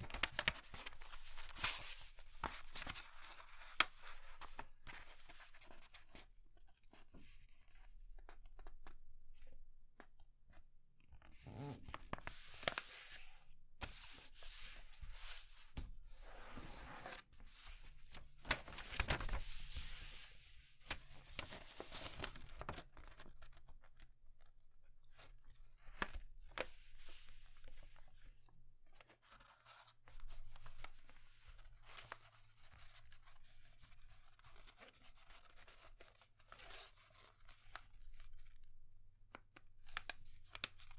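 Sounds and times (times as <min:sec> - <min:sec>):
paper being folded and rustling: 0:00.0 - 0:09.6, 0:11.2 - 0:24.0, 0:25.1 - 0:28.3, 0:29.0 - 0:38.7, 0:39.8 - 0:40.9.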